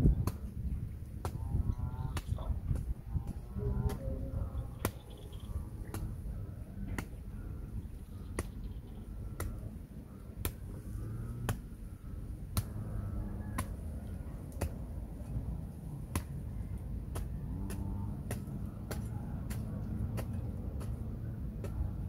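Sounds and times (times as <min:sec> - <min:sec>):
faint low rumble: 0:00.0 - 0:22.0.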